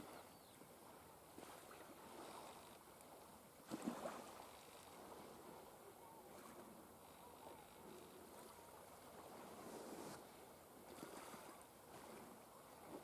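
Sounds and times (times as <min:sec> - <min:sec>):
small waves lapping on shore: 0:00.0 - 0:13.0.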